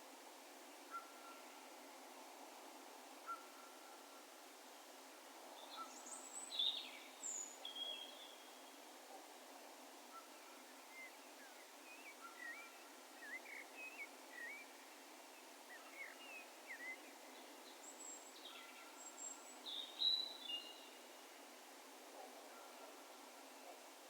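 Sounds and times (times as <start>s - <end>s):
faint background hiss: 0.0s - 24.0s.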